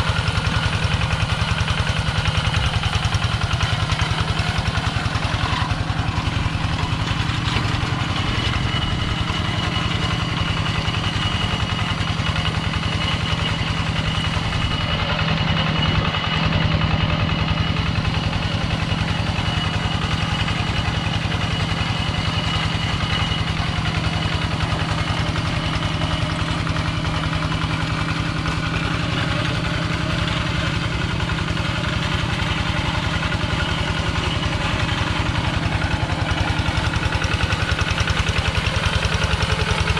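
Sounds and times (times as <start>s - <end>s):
walk-behind tractor engine running: 0.0s - 39.9s.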